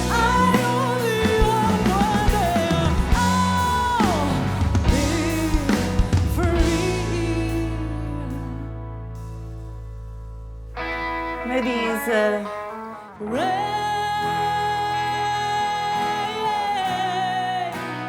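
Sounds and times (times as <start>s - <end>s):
woman singing: 0.0s - 8.9s, 11.4s - 18.0s
pop-rock band playing: 0.0s - 9.8s, 10.7s - 18.0s.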